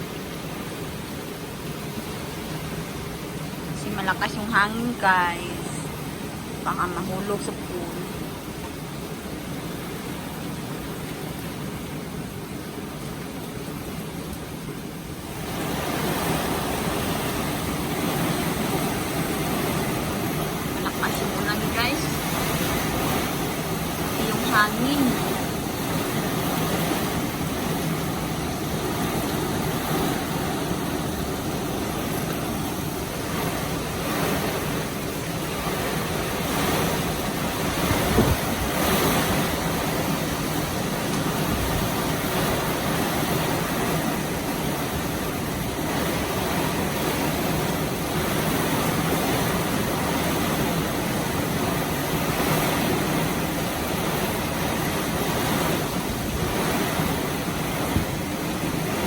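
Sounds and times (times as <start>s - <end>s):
heavy rain: 0.0s - 59.0s
strong wind: 0.0s - 59.0s.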